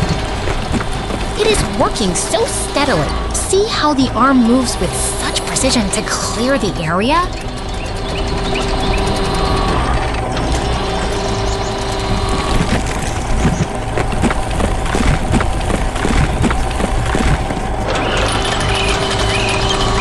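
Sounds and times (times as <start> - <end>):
excavator engine running: 0.0 - 20.0
mechanical clicks and clanks: 0.0 - 20.0.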